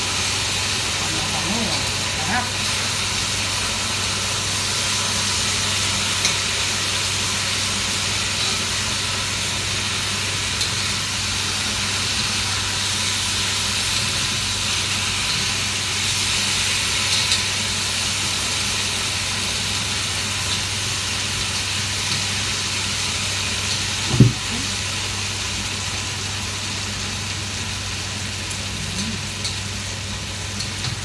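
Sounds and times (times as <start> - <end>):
vegetables sizzling in a wok: 0.0 - 31.0.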